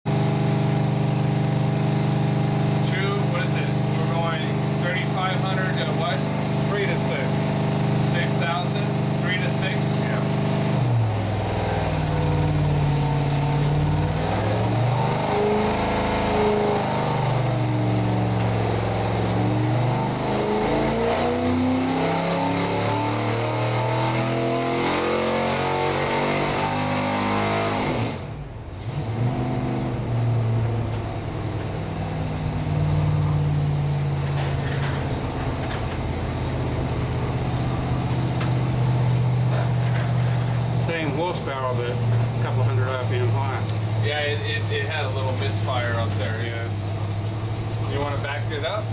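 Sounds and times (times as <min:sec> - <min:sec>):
engine running hard under load: 0:00.1 - 0:48.9.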